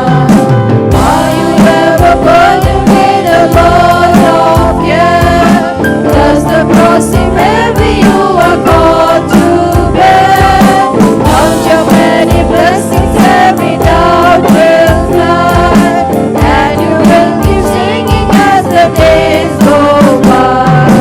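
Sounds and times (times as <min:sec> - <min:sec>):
instrumental backing: 0:00.0 - 0:21.0
person singing: 0:00.0 - 0:21.0
steady drum beat: 0:00.0 - 0:21.0.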